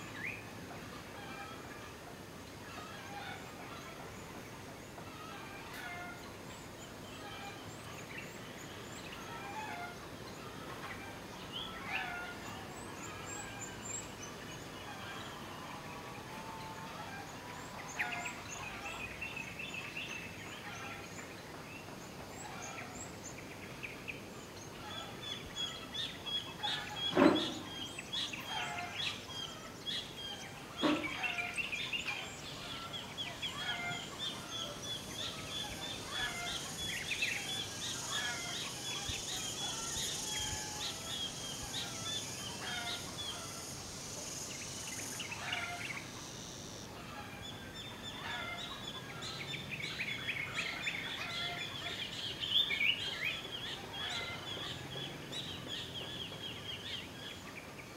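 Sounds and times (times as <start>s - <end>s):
birds chirping and calling: 0.0s - 57.9s.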